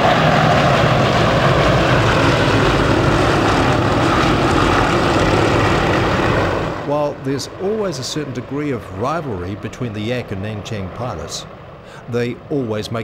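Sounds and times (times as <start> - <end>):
propeller planes droning past: 0.0 - 13.0.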